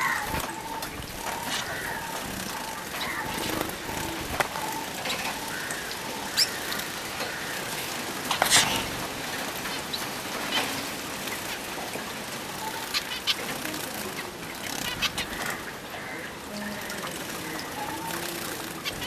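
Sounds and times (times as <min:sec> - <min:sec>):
birds splashing in water: 0:00.0 - 0:19.0.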